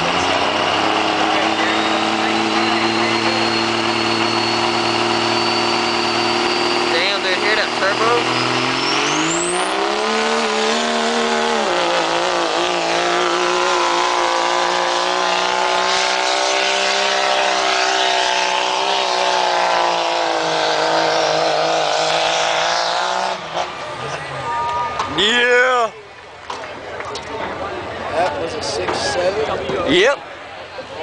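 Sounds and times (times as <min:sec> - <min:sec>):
diesel engine at full throttle: 0:00.0 - 0:31.0.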